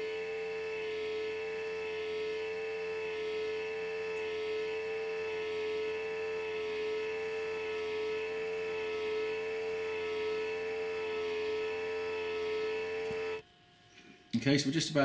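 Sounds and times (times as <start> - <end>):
motor whine: 0.0 - 14.1.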